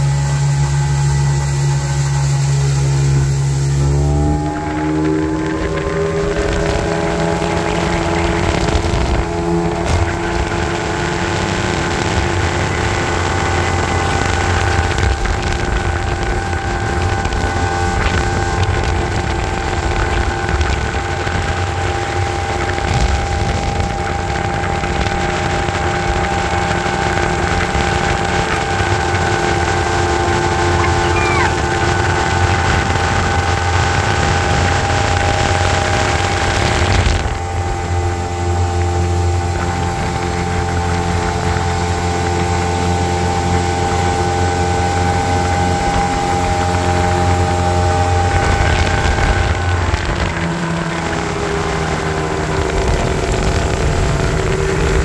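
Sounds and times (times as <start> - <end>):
outboard motor running: 0.0 - 55.0
water rushing along hull: 0.0 - 55.0
wind: 0.0 - 55.0.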